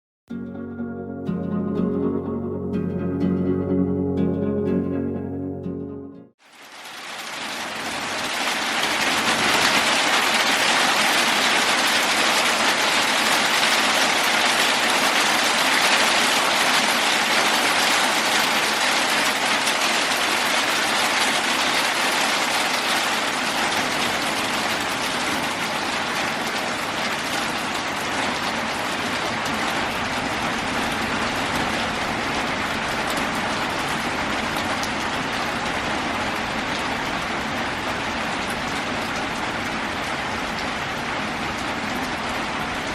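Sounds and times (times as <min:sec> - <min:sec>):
heavy rain on a metal roof: 0:06.4 - 0:42.9.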